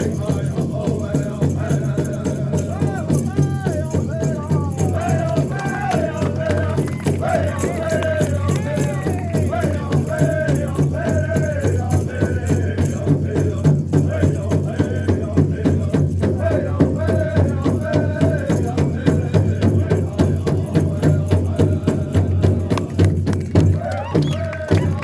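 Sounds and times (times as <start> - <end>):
singers chanting in high voices: 0.0 - 25.0
steady drumbeat: 0.0 - 25.0.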